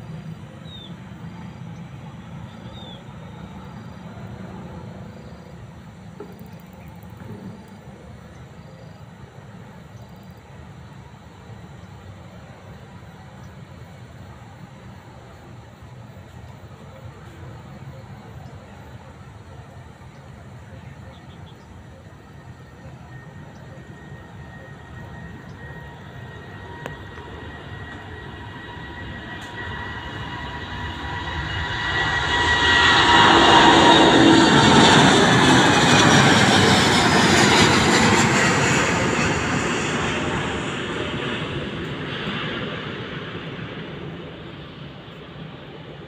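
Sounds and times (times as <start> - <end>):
jet airliner taking off: 0.0 - 46.0
jet engine whine: 0.0 - 46.0.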